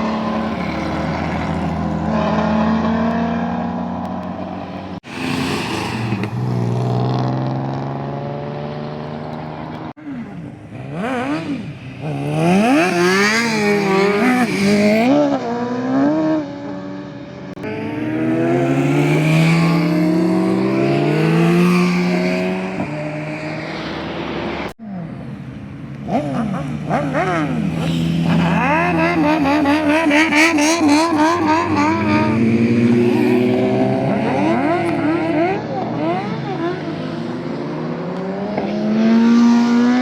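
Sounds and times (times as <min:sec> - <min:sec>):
car engines revving hard: 0:00.0 - 0:25.3, 0:25.9 - 0:40.0.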